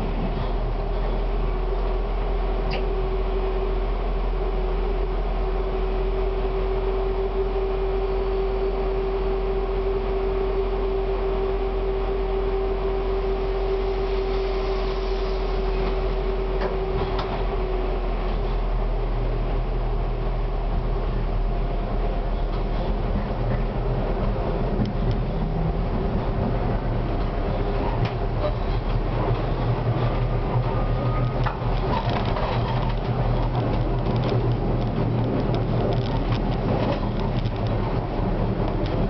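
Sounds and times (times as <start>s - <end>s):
tram electrical hum and whine: 0.0s - 39.0s.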